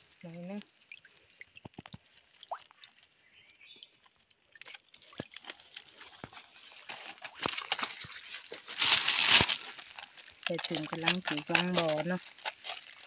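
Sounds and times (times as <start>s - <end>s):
water dripping and splashing: 0.0s - 13.0s
water trickling: 0.0s - 13.0s.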